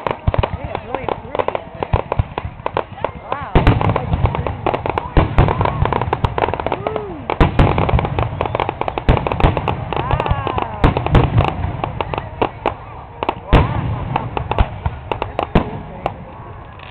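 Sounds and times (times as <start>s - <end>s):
fireworks popping and banging: 0.0s - 16.9s
people's voices: 0.0s - 16.9s.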